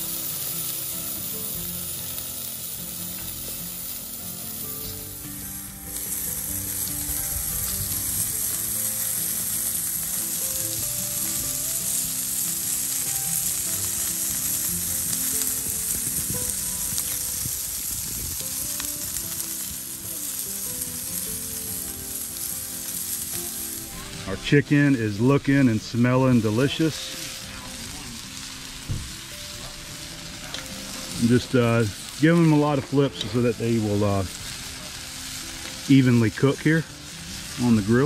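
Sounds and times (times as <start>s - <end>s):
chicken wings sizzling on grill: 0.0s - 38.0s.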